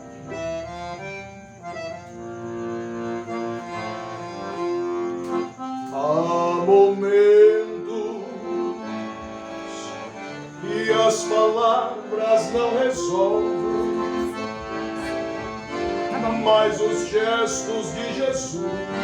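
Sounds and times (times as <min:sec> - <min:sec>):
accordion playing slow melody: 0:00.0 - 0:19.0.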